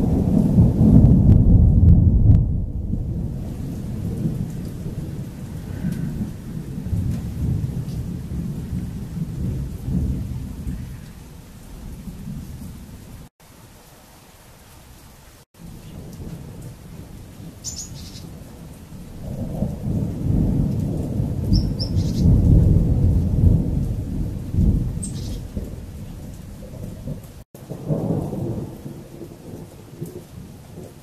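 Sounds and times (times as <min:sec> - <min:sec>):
rolling thunder: 0:00.0 - 0:13.3, 0:15.6 - 0:31.0.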